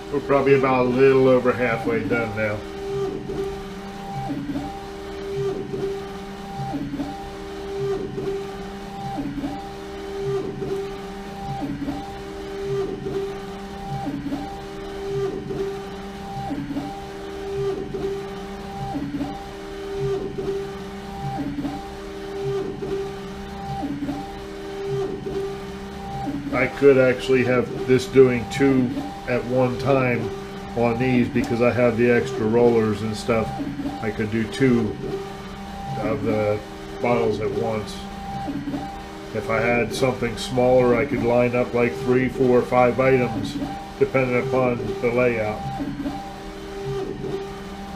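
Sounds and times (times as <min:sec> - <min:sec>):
printer carriage motor whine: 0:00.0 - 0:47.9.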